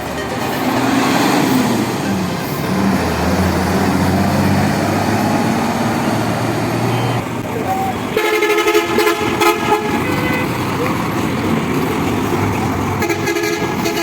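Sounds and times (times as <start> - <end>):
bus engine droning: 0.0 - 14.0
traffic and road noise: 0.0 - 14.0.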